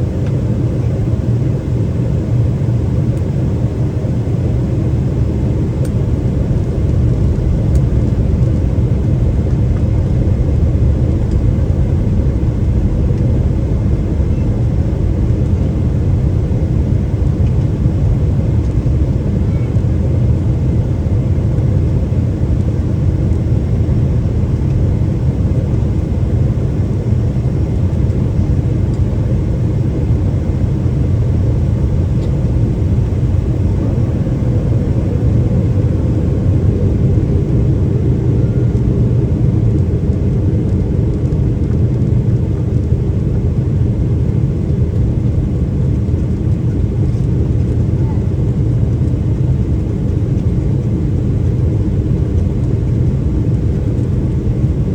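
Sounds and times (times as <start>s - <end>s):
airplane cabin rumble: 0.0s - 54.9s.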